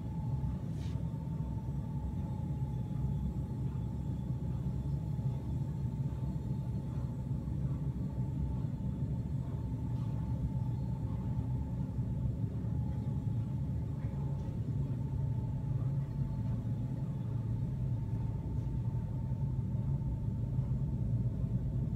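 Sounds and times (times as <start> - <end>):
faint steady whine: 0.0 - 21.9
ventilation system rumble: 0.0 - 21.9.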